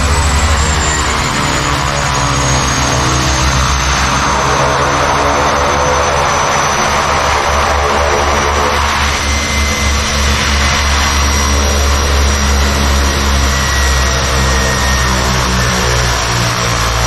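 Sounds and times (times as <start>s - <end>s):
high engine whine: 0.0s - 17.0s
turboprop plane engines droning: 0.0s - 17.0s.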